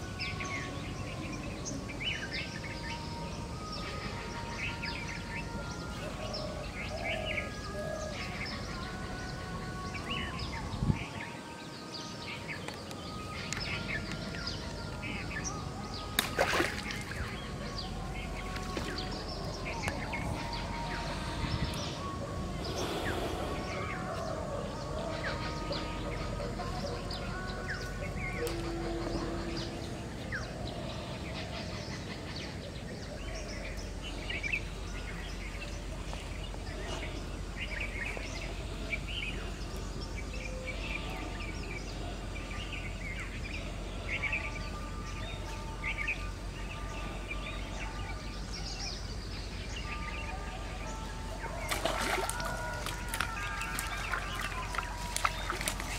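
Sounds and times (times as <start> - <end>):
birds chirping: 0.0 - 55.9
outdoor background noise: 0.0 - 55.9.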